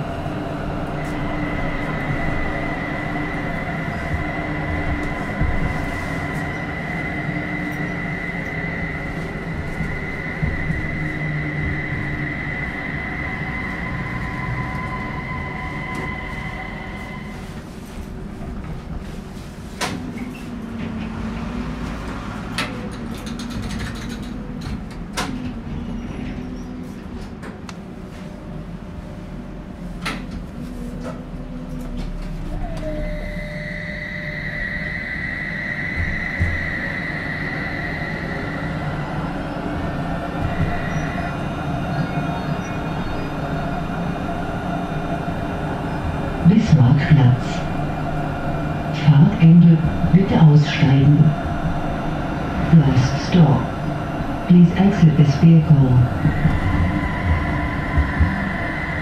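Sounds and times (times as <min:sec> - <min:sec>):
low hum: 0:00.0 - 0:19.2, 0:27.7 - 0:59.0
tram doors clunking: 0:00.0 - 0:59.0
tram inverter whine: 0:00.0 - 0:59.0.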